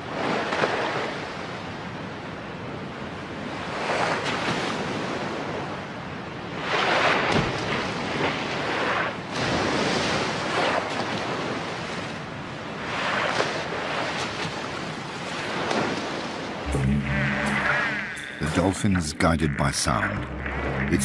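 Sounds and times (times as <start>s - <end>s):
sea water rushing and splashing: 0.0s - 21.0s.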